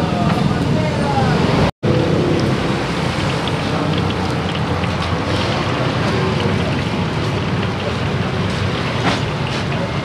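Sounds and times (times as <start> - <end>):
oil sizzling with pops: 1.9 - 10.0.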